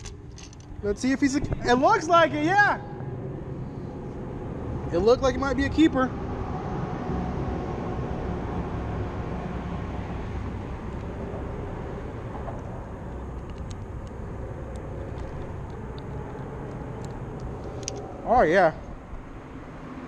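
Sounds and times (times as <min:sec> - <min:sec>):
traffic rumble on bridge: 0:00.0 - 0:20.0.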